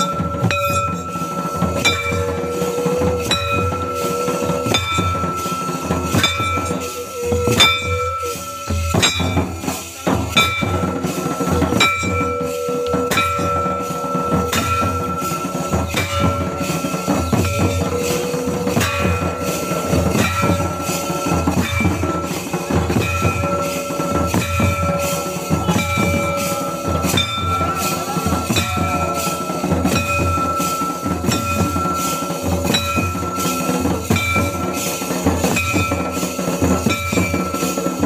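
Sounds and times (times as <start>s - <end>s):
steady high tone: 0.0s - 37.8s
barrel drums beating rhythm: 0.0s - 38.0s.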